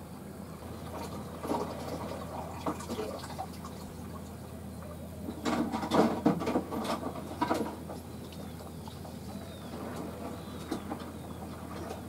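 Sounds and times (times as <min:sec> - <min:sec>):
water splashing and sloshing: 0:00.6 - 0:12.0.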